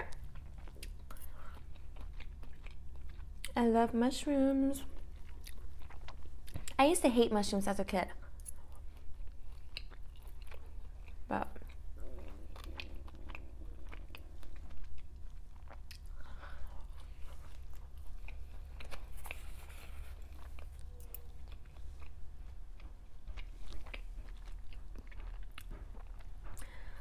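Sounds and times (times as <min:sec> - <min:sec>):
chewing with wet mouth clicks: 0:00.0 - 0:03.6, 0:04.8 - 0:06.8, 0:08.4 - 0:26.9
steady low rumble: 0:00.1 - 0:27.0.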